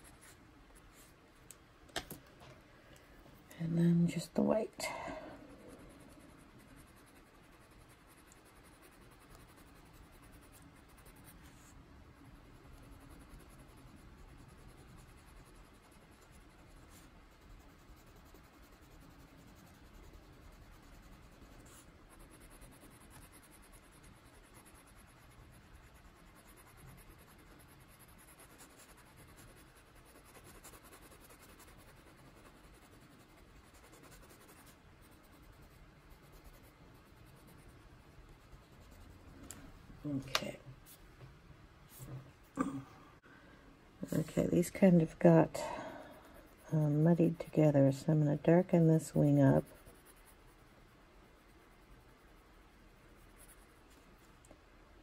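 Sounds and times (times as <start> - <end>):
colored pencil scratching paper: 0.0 - 1.2, 3.7 - 40.2, 44.0 - 54.3.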